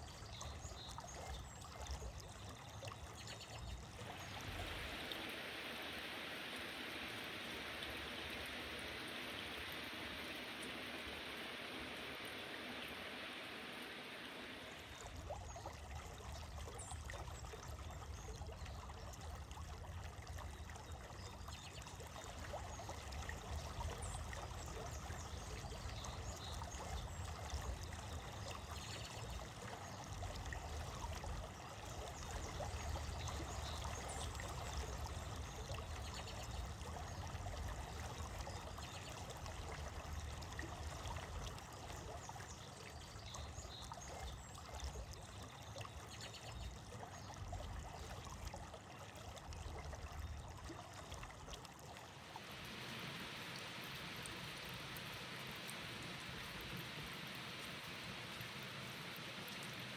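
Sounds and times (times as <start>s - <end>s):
low water rumble: 0.0s - 59.9s
stream trickling over stones: 0.0s - 59.9s.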